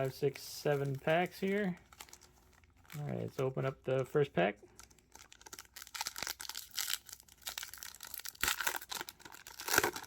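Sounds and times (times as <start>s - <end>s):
wrapper being torn and crinkled: 0.0s - 10.0s.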